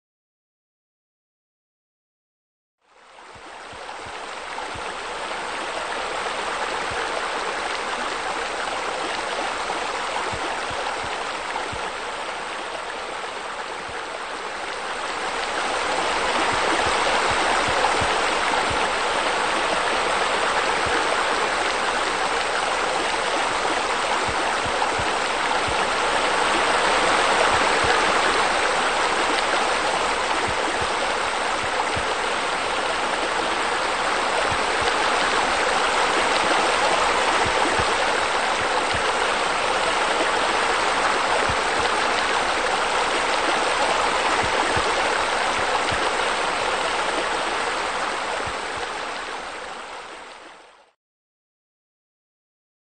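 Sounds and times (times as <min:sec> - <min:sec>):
running splashing water: 0:03.7 - 0:50.4.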